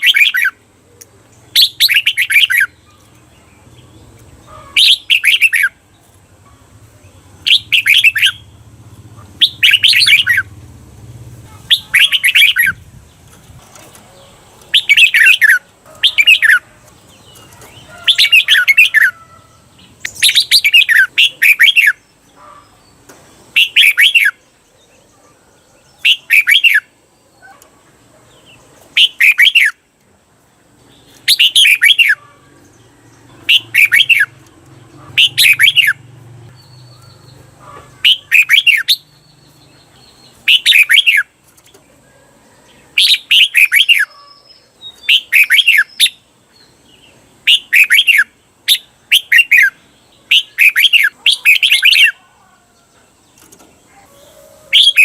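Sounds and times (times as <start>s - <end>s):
bulbul singing warbled phrases: 0.0s - 13.6s, 14.2s - 29.9s, 30.6s - 52.6s, 53.4s - 55.0s.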